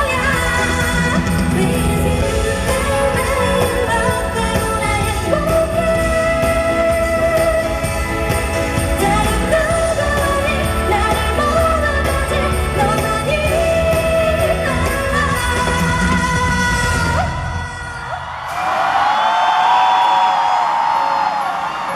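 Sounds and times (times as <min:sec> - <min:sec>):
band backing music: 0:00.0 - 0:17.7.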